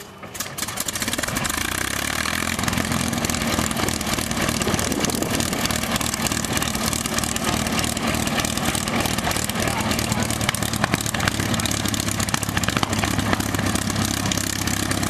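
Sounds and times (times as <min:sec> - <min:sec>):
aircraft piston engine running: 0:00.0 - 0:15.0.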